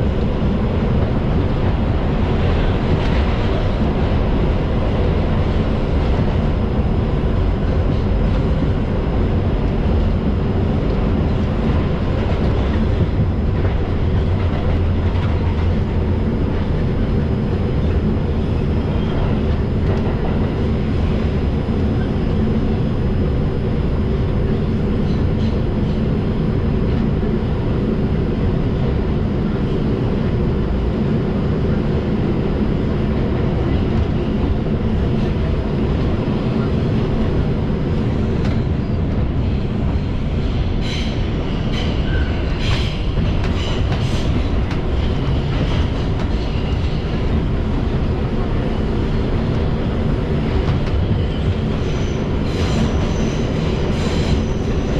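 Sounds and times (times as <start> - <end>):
subway car wheels rumbling on rail: 0.0 - 54.9.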